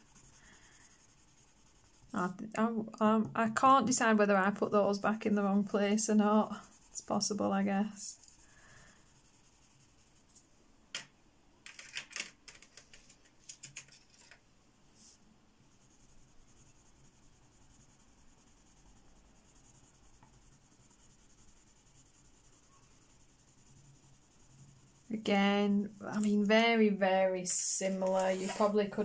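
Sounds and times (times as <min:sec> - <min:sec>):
colored pencil scratching on paper: 0:00.0 - 0:10.4, 0:15.0 - 0:26.8, 0:27.8 - 0:29.0.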